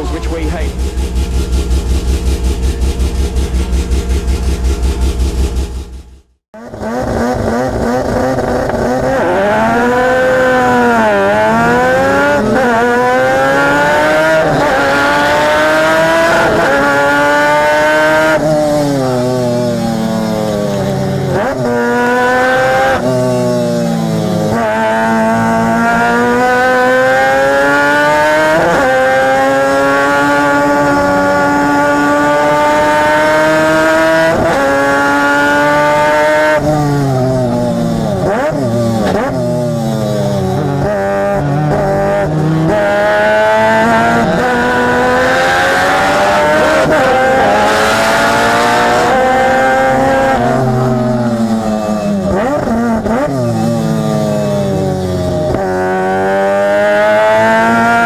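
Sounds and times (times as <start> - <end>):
rotary engine revving: 0.0 - 58.0
engine rev blips on downshifts: 6.6 - 58.0.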